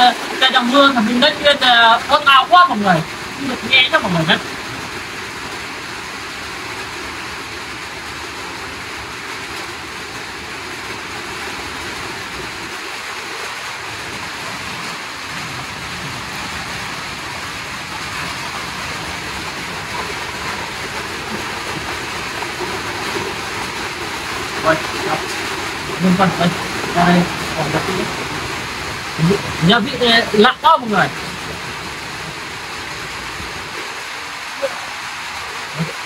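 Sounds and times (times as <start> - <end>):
heavy rain on metal roof: 0.0 - 36.0.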